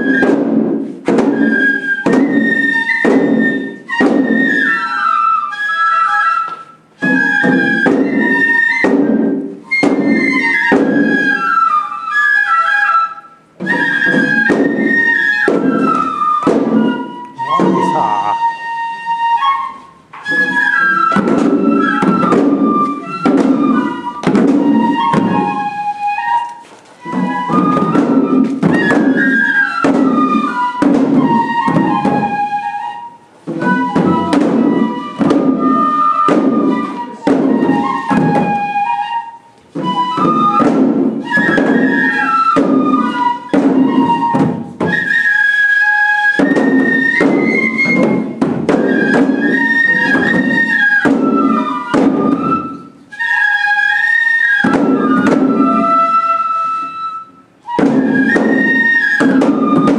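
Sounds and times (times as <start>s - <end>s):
bamboo flutes playing melody: 0.0s - 59.9s
drum strokes: 0.0s - 59.9s.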